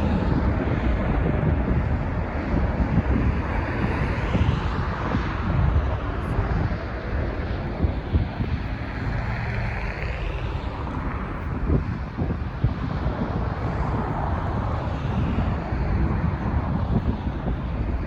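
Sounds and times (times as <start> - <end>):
jet engines rumbling on takeoff: 0.0 - 18.0
wind gusting on microphone: 0.0 - 18.0.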